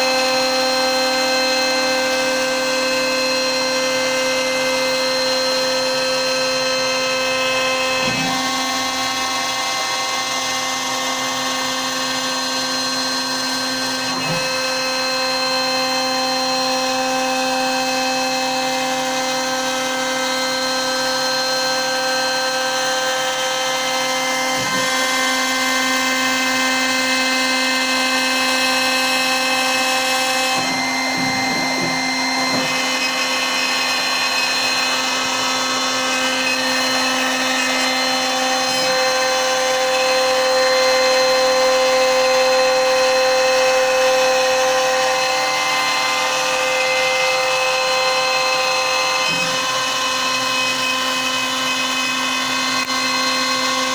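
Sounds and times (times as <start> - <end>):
cnc router spindle whine: 0.0 - 53.9.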